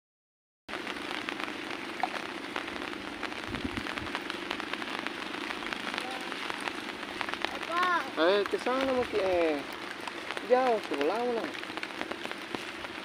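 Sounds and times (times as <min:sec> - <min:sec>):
heavy rain falling: 0:00.7 - 0:13.0.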